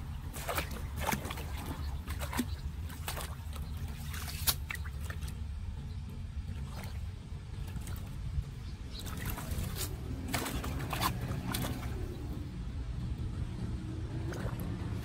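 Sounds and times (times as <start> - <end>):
floodwater splashing: 0.0 - 13.0, 13.8 - 15.0
low steady rumble: 0.0 - 15.0.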